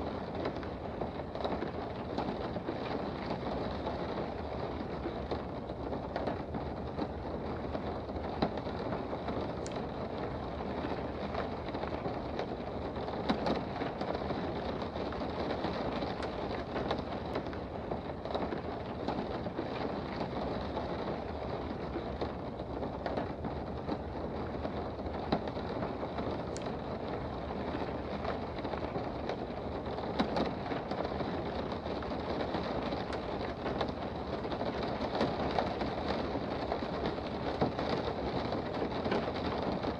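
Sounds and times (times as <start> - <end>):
rain drops ticking: 0.0 - 39.9
steady rain hiss: 0.0 - 39.9.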